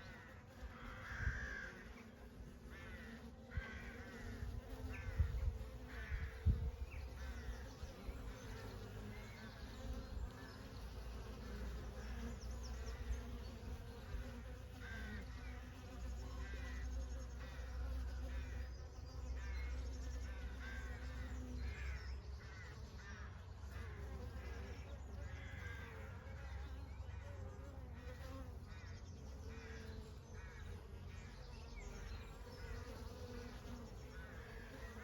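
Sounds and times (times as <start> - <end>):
honey bees buzzing: 0.0 - 35.0.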